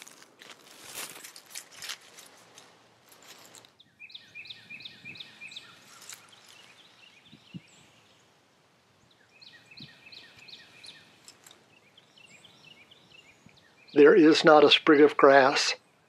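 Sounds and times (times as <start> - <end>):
birds chirping: 0.8 - 16.0.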